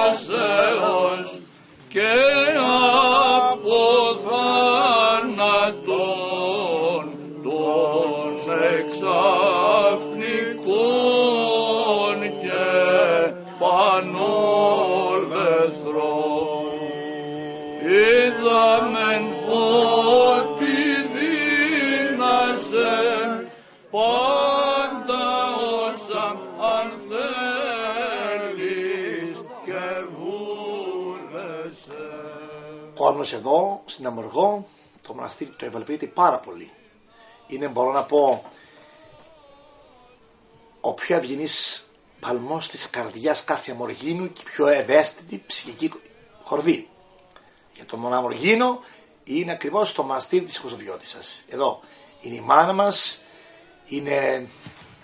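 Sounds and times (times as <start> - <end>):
men chanting ornamented melody: 0.0 - 34.5, 35.1 - 48.8.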